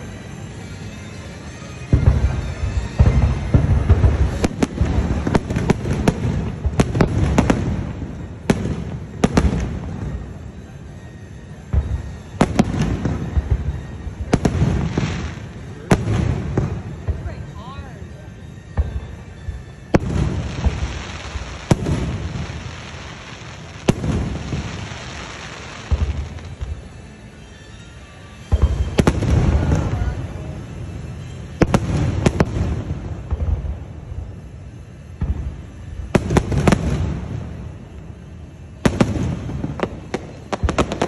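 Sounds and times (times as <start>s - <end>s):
firework shells booming: 1.9s - 17.6s, 18.5s - 27.5s, 28.4s - 41.0s.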